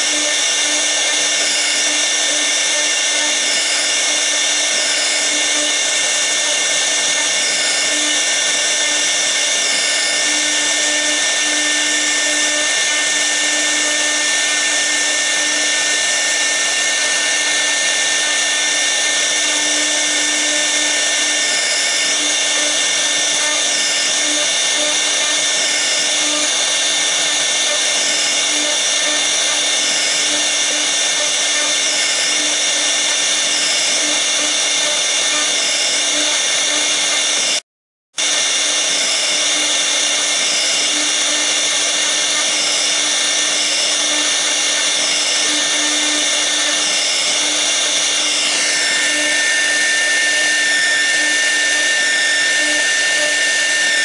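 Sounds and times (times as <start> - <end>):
router spindle whining: 0.0 - 37.6, 38.2 - 54.0.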